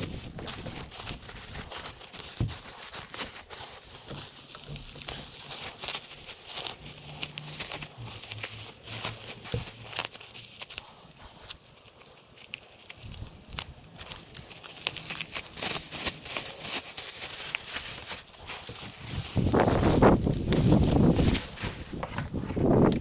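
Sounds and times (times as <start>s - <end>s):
bubble wrap crinkling: 0.0s - 23.0s.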